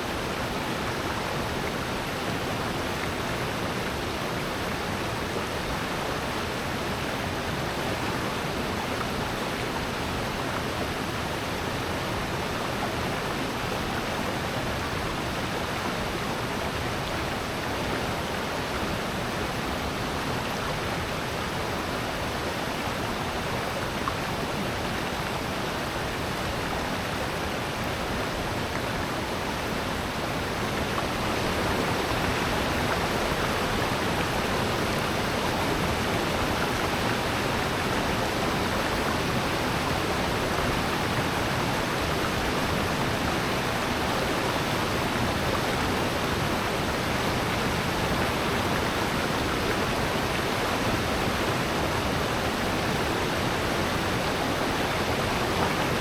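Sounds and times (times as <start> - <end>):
stream and waterfall roaring: 0.0 - 56.0.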